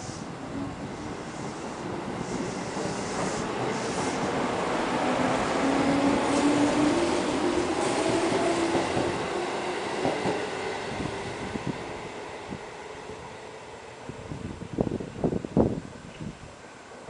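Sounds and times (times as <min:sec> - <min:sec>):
electric train pulling out: 0:00.0 - 0:14.2.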